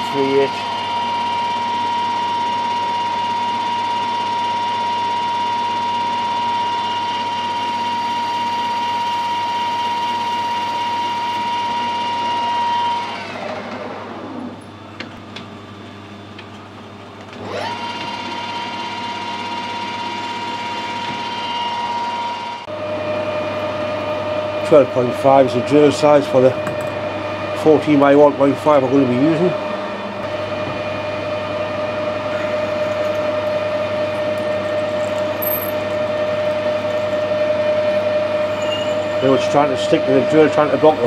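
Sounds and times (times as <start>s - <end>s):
metal lathe whine: 0.0s - 14.8s, 17.4s - 41.0s.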